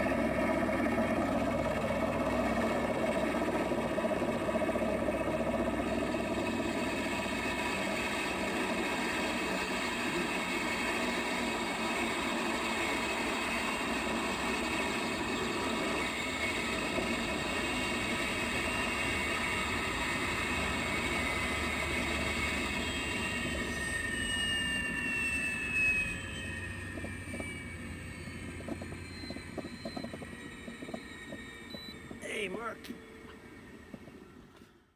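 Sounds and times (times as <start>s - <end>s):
helicopter rotor noise: 0.0s - 34.4s
model helicopter whine: 0.0s - 34.9s.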